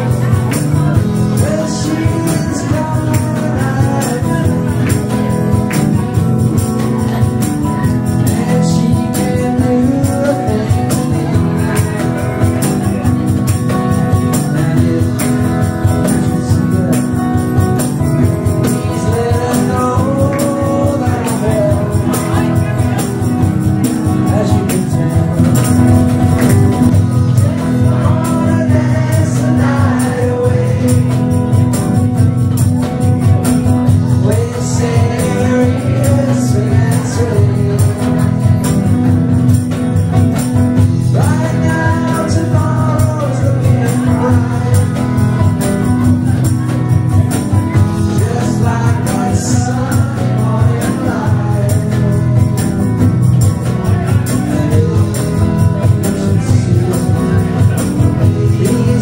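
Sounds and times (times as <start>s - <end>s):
electric guitar rhythm: 0.0s - 59.0s
person singing: 0.0s - 59.0s.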